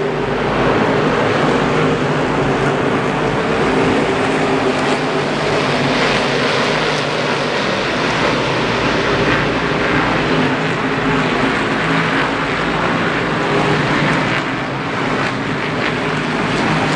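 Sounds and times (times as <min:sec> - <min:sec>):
race car engines rumbling: 0:00.0 - 0:16.9.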